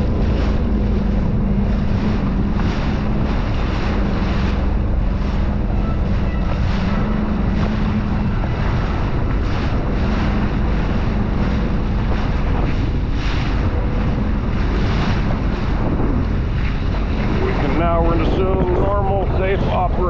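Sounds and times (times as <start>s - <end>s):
jet ski engine droning: 0.0s - 20.0s
water sloshing: 0.0s - 20.0s
wind buffeting microphone: 0.0s - 20.0s.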